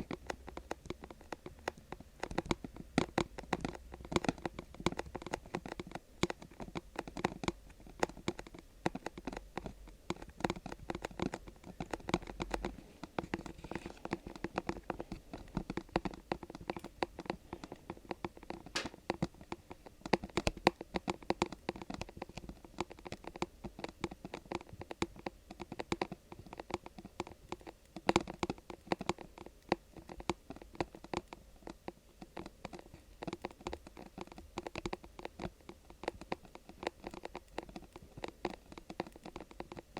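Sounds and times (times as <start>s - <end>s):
fingertips tapping and scratching: 0.0s - 39.9s.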